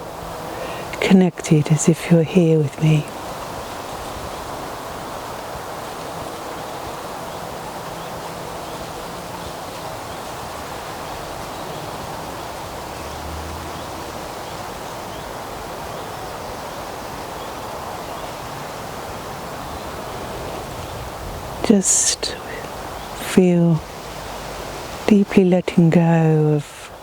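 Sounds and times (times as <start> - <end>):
wind rustling through trees: 0.0 - 27.0.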